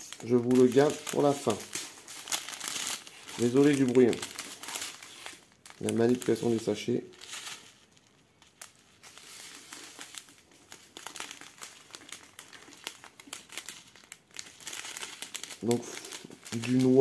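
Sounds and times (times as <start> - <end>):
plastic sachets crinkling: 0.0 - 17.0.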